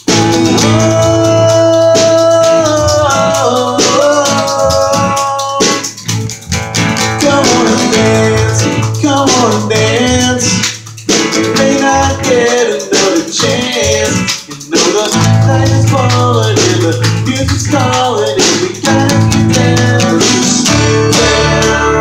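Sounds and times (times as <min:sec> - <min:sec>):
guitar with sliding bending notes: 0:00.0 - 0:22.0.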